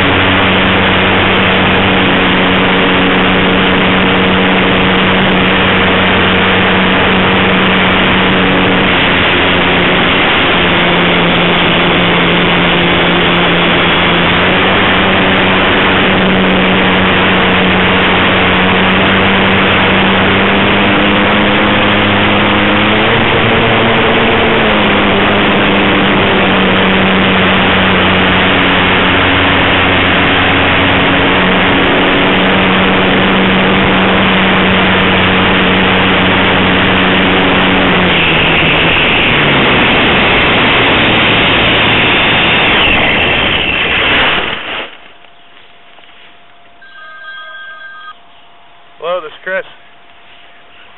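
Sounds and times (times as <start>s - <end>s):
wind rushing over microphone: 0.0s - 46.1s
model airplane motor and propeller: 0.0s - 46.2s.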